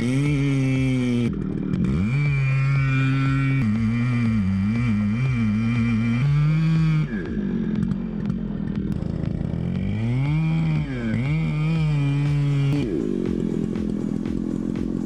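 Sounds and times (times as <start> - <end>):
engine running at high revs: 0.0 - 15.0.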